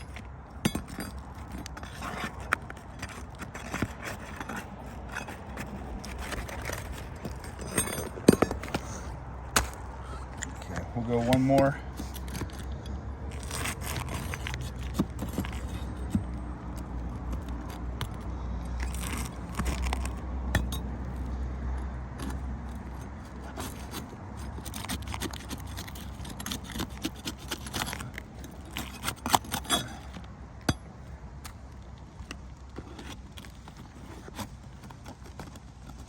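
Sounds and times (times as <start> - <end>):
shingles pried loose clinking: 0.0 - 21.2, 22.2 - 36.0.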